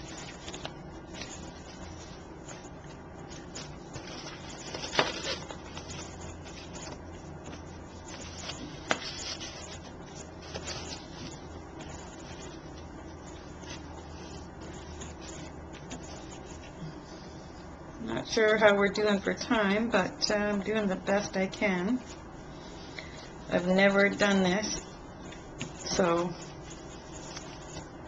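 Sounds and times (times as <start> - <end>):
rustling of ribbon and card: 0.0 - 17.6, 21.2 - 28.0
low steady hum: 0.0 - 28.0.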